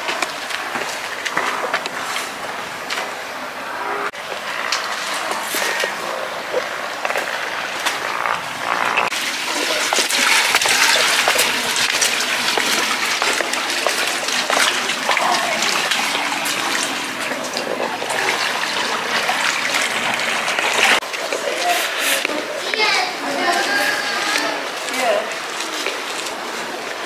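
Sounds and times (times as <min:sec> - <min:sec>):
water splashing and dripping: 0:00.0 - 0:03.4, 0:04.1 - 0:27.0
water rushing: 0:00.0 - 0:27.0.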